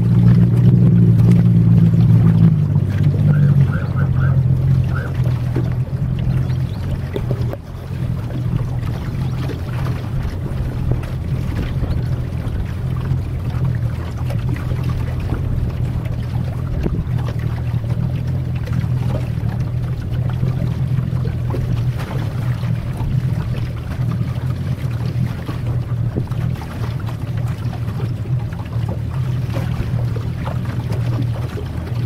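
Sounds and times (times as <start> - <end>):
motorboat engine droning: 0.0 - 32.0
water splashing along hull: 0.0 - 32.0.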